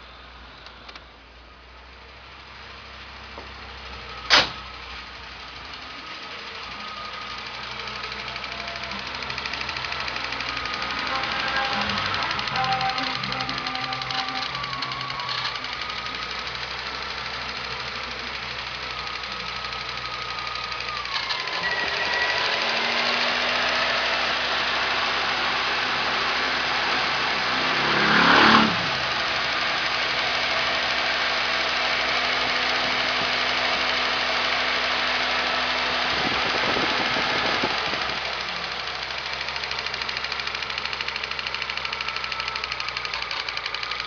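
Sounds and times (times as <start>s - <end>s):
car engine running and revving: 0.0s - 44.0s.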